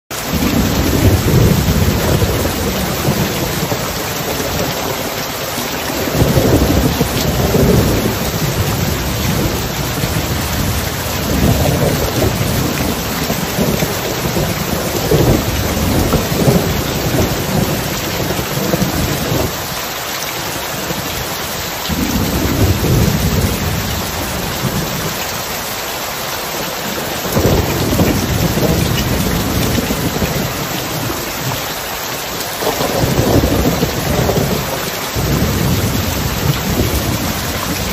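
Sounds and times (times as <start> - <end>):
heavy rain: 0.1 - 37.9
low rolls of thunder: 0.3 - 5.1, 5.9 - 19.6, 21.9 - 25.1, 26.9 - 31.6, 32.6 - 37.9.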